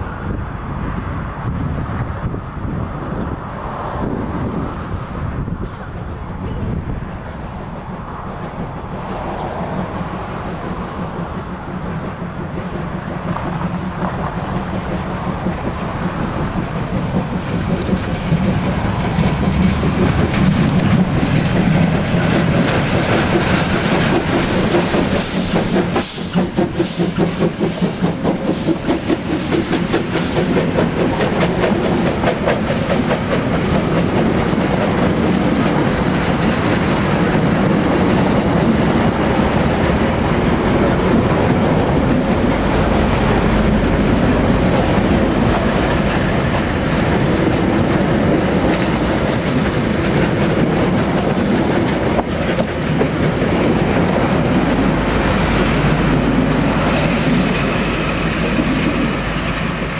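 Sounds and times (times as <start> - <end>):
steam train passing: 0.0 - 59.9
wheels clicking over rail joints: 5.9 - 59.9.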